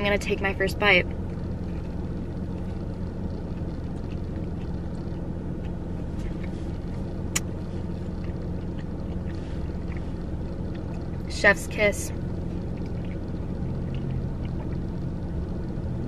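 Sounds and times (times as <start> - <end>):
cabin fan: 0.0 - 16.0
car engine idling: 0.0 - 16.0
chewing ticks: 0.2 - 16.0.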